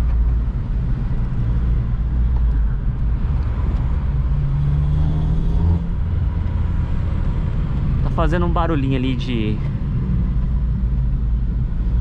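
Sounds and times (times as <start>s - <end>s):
car engine from inside cabin: 0.0s - 12.0s
road rumble: 0.0s - 12.0s.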